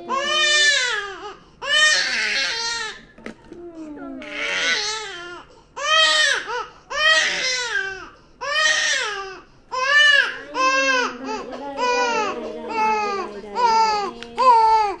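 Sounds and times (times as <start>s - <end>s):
baby crying: 0.0s - 3.0s, 4.0s - 15.0s.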